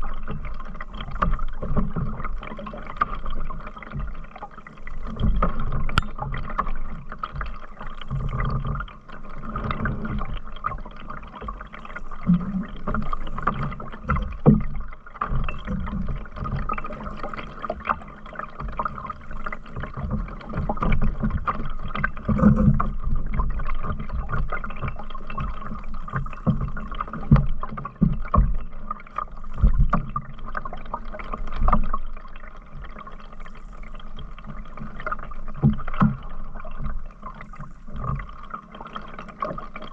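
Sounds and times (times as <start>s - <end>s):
water splashing against paddle: 0.0s - 39.9s.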